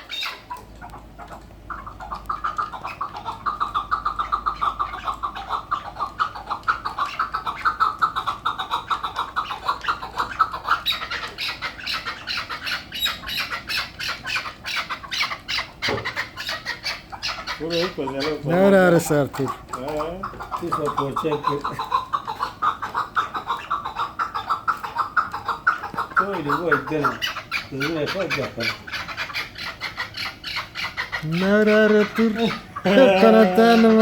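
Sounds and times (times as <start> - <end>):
partridge clucking calls: 0.0 - 34.0.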